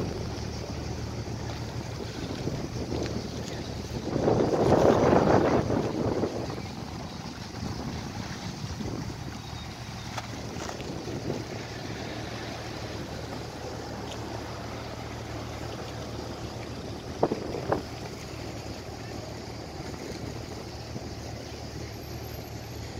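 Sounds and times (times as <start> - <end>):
ferry engines humming: 0.0 - 22.9
harbour water noise: 0.0 - 22.9
wind: 0.0 - 22.9.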